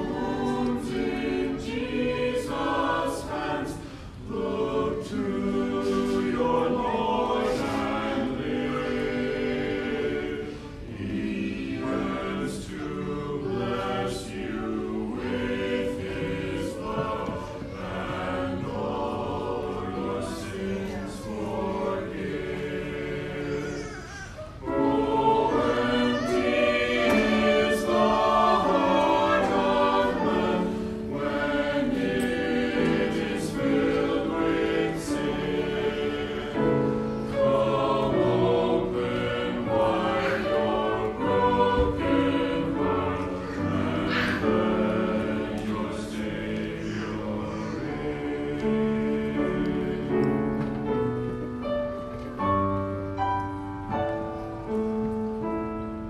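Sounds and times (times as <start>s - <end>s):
group singing a hymn in harmony: 0.0s - 56.0s.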